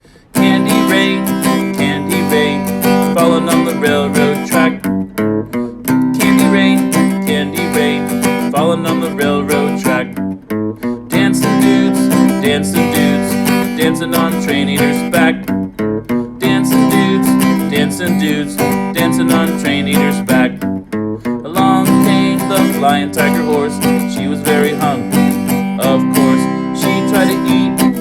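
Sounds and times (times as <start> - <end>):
acoustic guitar strumming: 0.1 - 28.0.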